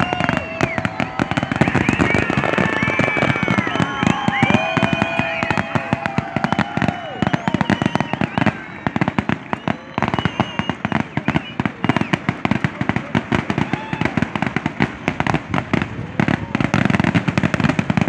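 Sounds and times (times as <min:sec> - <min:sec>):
fireworks bursting in rapid bangs: 0:00.0 - 0:18.0.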